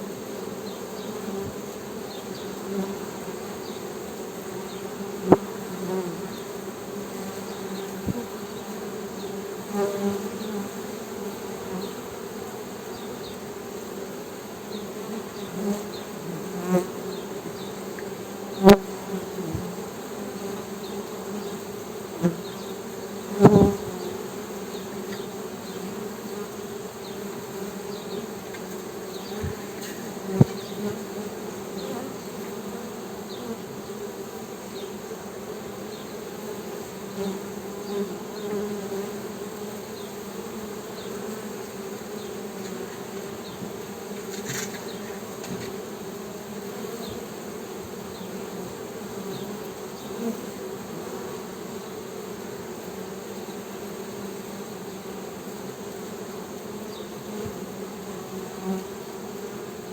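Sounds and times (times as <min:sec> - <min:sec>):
close bee buzzes: 0:00.0 - 0:59.9
honey bees humming: 0:00.0 - 0:59.9.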